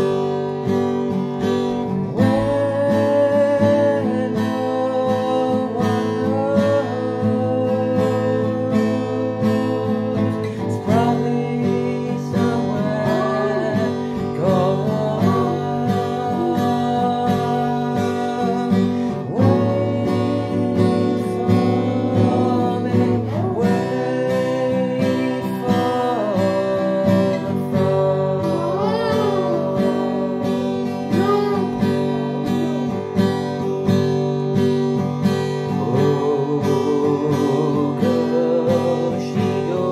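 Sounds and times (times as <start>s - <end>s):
acoustic guitar strumming: 0.0s - 39.9s
man singing: 1.4s - 34.2s, 35.2s - 39.9s.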